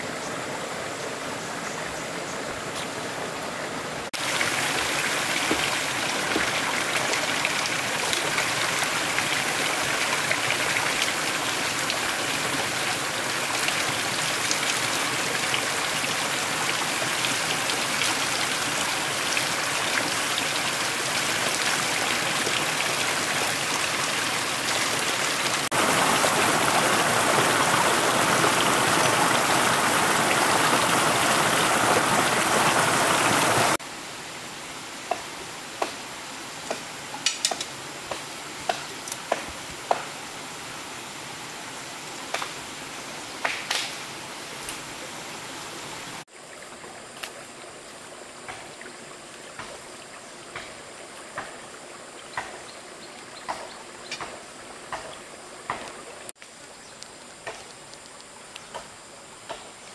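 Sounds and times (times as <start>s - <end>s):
rushing water: 0.0s - 59.6s.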